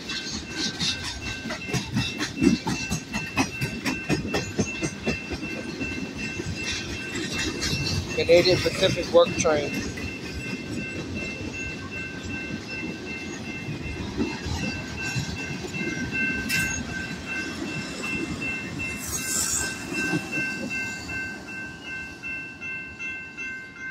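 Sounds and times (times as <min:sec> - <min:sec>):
crossing warning bell ringing: 0:00.0 - 0:23.9
freight train rolling over rails: 0:00.0 - 0:23.9.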